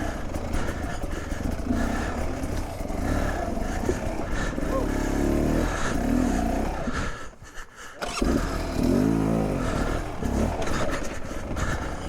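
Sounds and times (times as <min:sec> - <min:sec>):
dirt bike engine revving: 0:00.0 - 0:07.1, 0:08.0 - 0:12.0.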